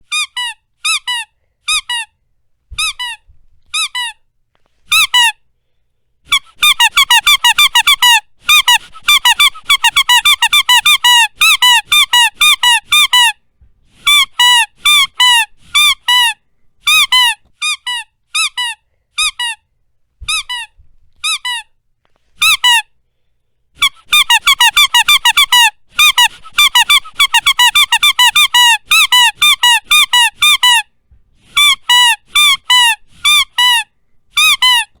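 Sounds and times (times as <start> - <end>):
squeaker toy squeaking: 0.0 - 4.3, 4.9 - 5.4, 6.3 - 13.4, 14.0 - 21.8, 22.4 - 23.0, 23.8 - 35.0.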